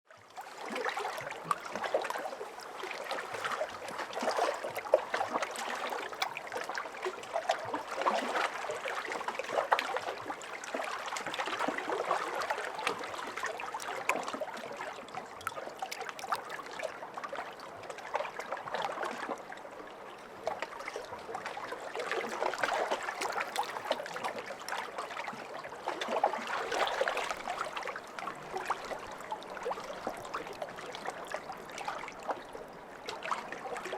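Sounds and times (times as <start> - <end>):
lake waves lapping: 0.4 - 19.4, 20.9 - 33.9.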